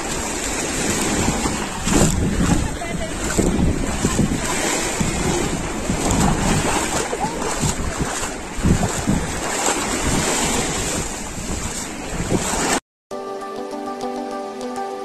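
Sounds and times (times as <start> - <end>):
foot splashing through water: 0.0 - 12.8
sea water washing over sand: 0.0 - 12.8
wind buffeting microphone: 0.0 - 12.8.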